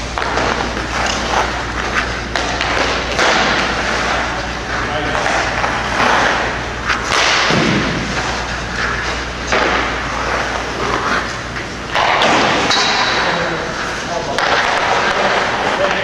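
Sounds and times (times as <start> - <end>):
pucks being shot: 0.0 - 16.0
skate blades scraping ice: 0.1 - 16.0.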